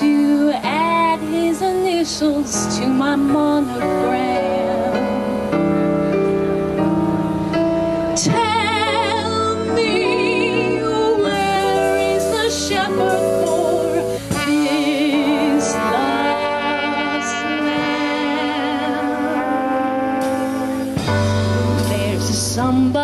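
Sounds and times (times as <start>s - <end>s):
swing band playing: 0.0s - 23.0s.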